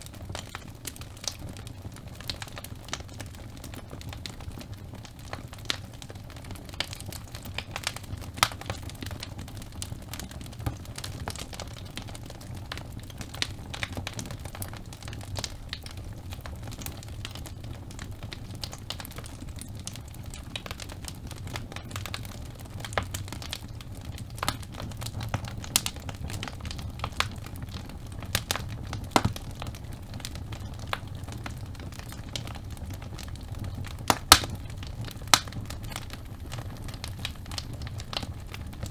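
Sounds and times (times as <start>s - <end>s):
burning logs crackling and popping: 0.0s - 38.9s
fire flames rumbling: 0.0s - 38.9s.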